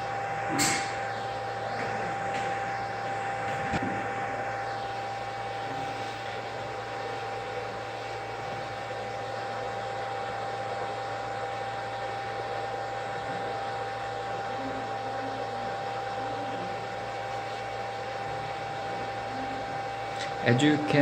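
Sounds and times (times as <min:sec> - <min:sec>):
hot-air heater blowing: 0:00.0 - 0:21.0.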